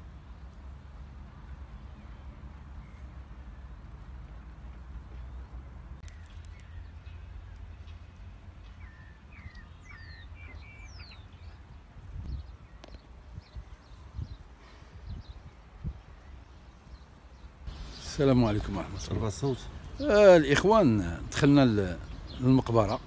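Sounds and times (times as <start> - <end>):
small birds chirping: 1.4 - 23.0.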